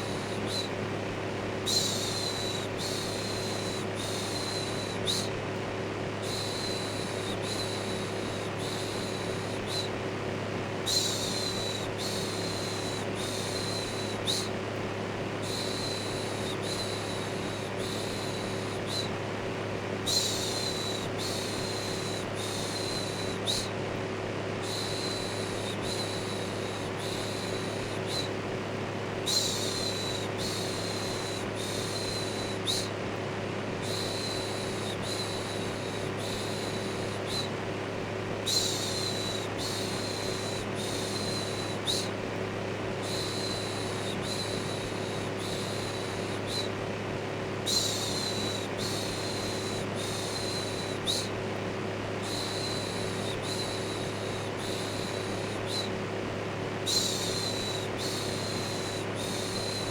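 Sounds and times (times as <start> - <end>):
electric fan humming: 0.0 - 59.9
shushing hiss: 1.5 - 5.4, 6.1 - 10.0, 10.6 - 23.8, 24.5 - 33.0, 33.7 - 59.9.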